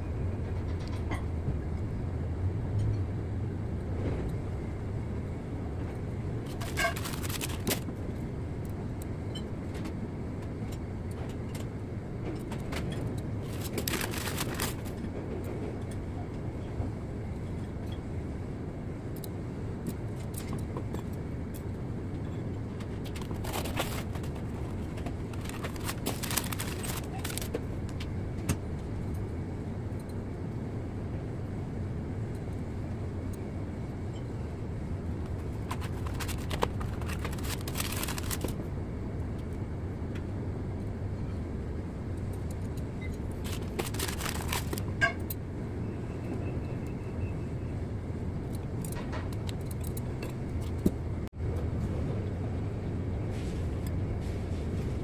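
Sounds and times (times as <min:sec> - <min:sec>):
low background rumble: 0:00.0 - 0:45.8.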